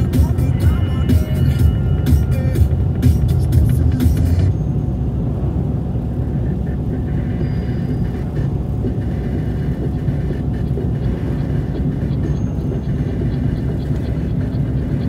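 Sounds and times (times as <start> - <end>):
car driving on snowy road: 0.0 - 15.0.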